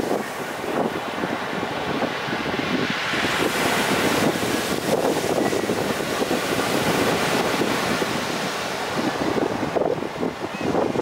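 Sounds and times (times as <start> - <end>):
waves breaking on pebble beach: 0.0 - 10.1.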